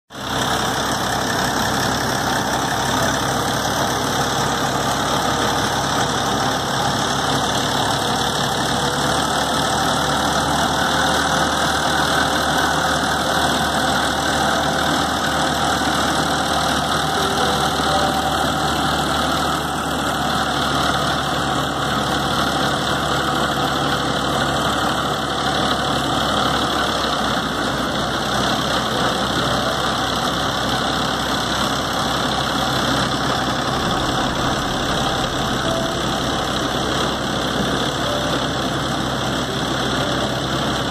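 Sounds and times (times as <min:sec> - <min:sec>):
tractor engine running: 0:00.1 - 0:40.9.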